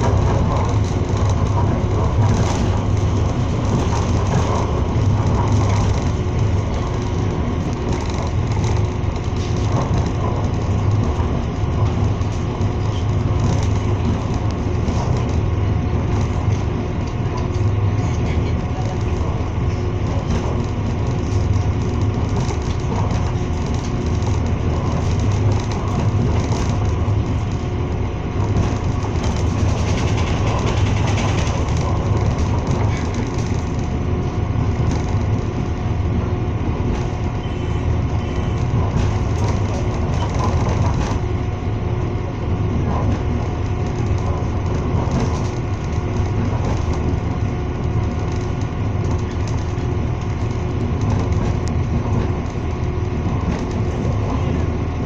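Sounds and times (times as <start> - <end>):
constant hum: 0.0 - 55.0
train wheels rumbling on rails: 0.0 - 55.0.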